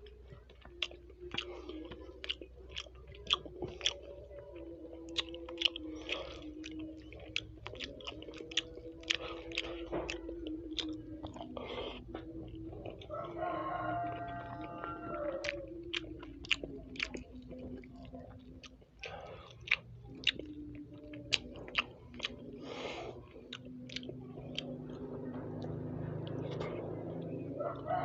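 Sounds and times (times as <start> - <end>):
chewing with wet mouth smacks: 0.0 - 28.0.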